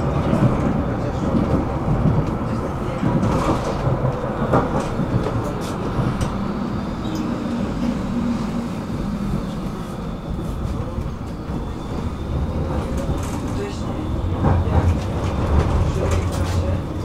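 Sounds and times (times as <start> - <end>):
tram rumbling on track: 0.0 - 17.0.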